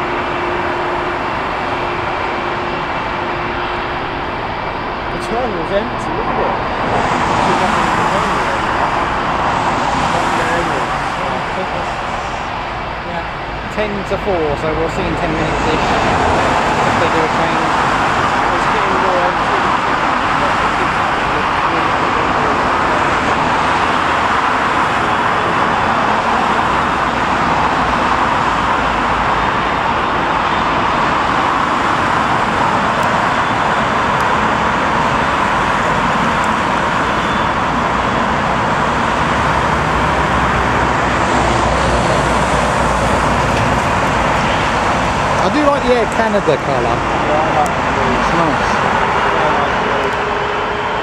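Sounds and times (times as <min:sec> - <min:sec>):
jet engine noise: 0:00.0 - 0:51.0
road traffic roar: 0:00.0 - 0:51.0.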